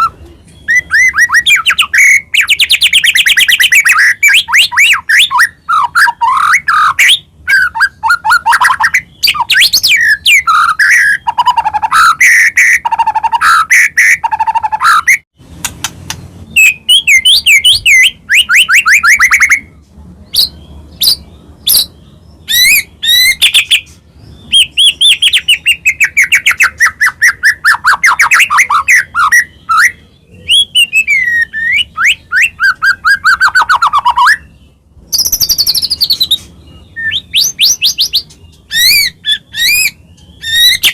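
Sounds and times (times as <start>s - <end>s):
songbird singing whistles and trills: 0.0s - 15.3s, 16.1s - 40.9s.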